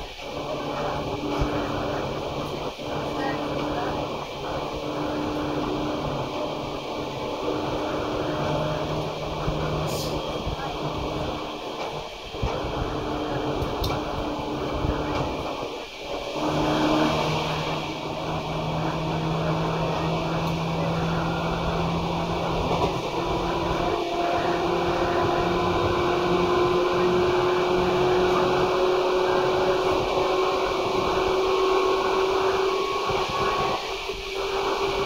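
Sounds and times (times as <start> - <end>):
electric train motor whine: 0.0 - 35.0
train wheels rumbling: 0.0 - 35.0.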